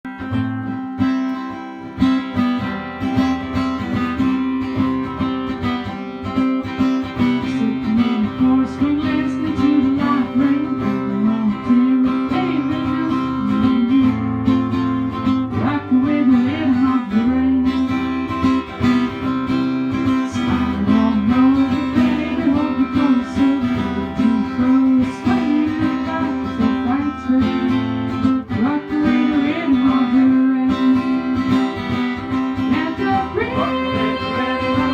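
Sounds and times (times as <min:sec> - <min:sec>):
strummed acoustic guitar: 0:00.0 - 0:34.9.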